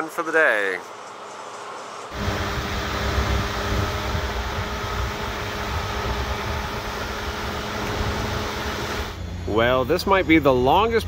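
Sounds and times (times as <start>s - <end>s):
faint steady tones: 0.0s - 11.0s
mechanical hum: 0.0s - 11.0s.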